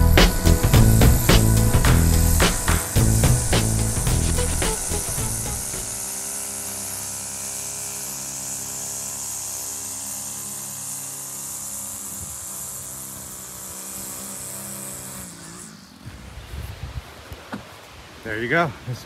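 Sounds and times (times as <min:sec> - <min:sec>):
string trimmer cutting grass: 0:00.0 - 0:18.0.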